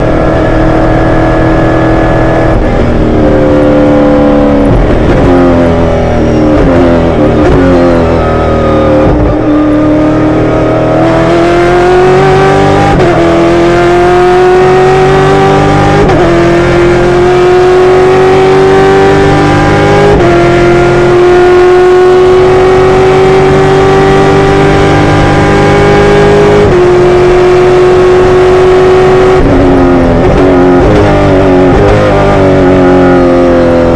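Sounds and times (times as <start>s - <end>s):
engine revving through gears: 0.0s - 33.9s.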